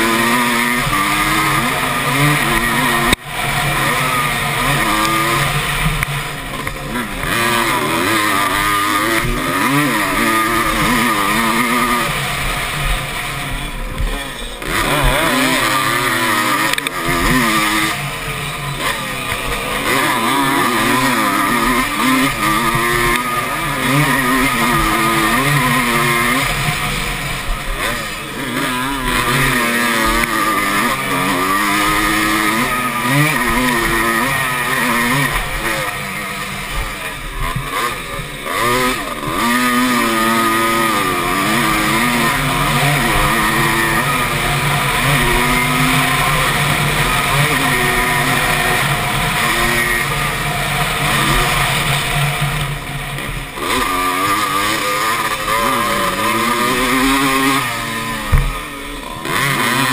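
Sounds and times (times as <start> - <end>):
motorbike engine revving hard: 0.0 - 59.9.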